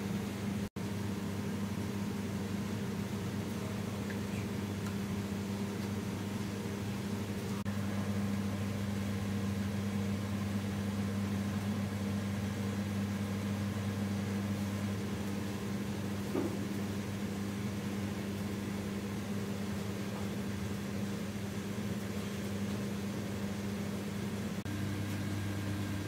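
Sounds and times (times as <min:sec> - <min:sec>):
electrical hum of kitchen machinery: 0:00.0 - 0:26.0.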